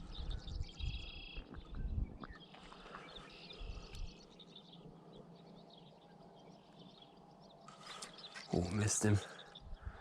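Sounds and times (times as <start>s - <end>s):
birds chirping faintly: 0.0s - 10.0s.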